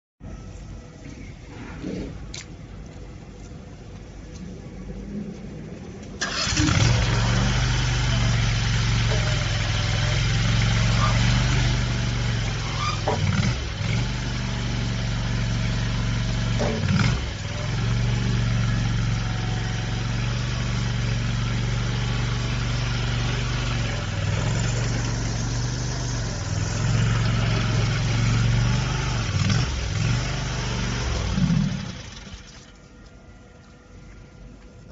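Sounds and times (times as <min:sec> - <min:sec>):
loader engine running under load: 0:05.9 - 0:34.9.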